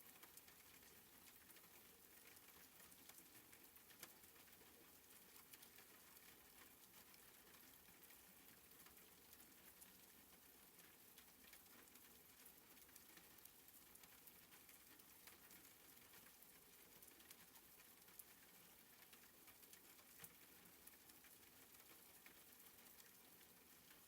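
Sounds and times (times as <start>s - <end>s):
light raindrop ticks: 0.0s - 24.0s
soft rain hiss: 0.0s - 24.0s.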